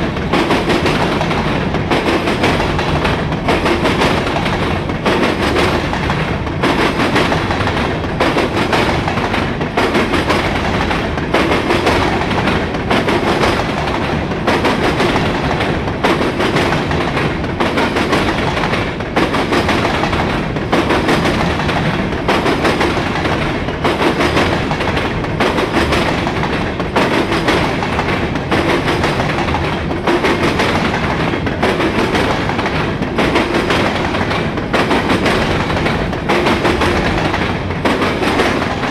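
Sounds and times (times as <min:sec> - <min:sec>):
train wheels rumbling on rail: 0:00.0 - 0:38.9
wheels clattering over rail joints: 0:00.0 - 0:38.9.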